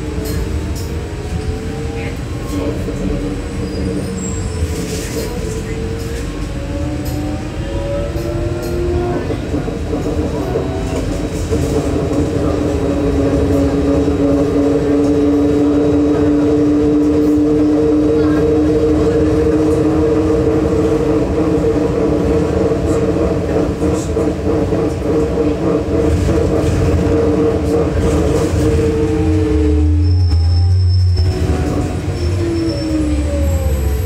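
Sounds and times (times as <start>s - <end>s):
low road rumble: 0.0s - 34.0s.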